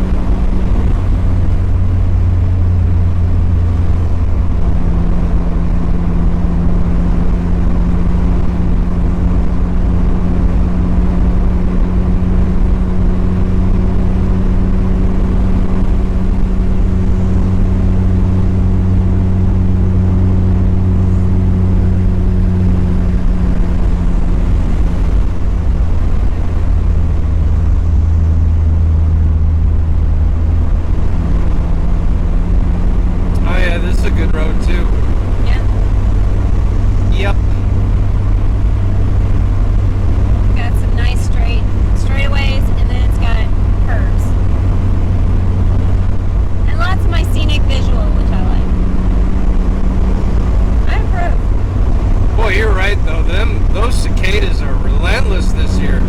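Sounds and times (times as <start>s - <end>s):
car engine and exhaust cruising: 0.0s - 56.0s
tyre and road noise: 0.0s - 56.0s.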